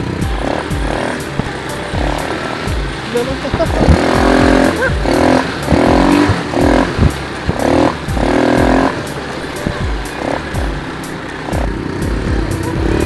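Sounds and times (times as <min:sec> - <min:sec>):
quad bike engine running: 0:00.0 - 0:13.0
rumble with knocks: 0:00.0 - 0:13.0.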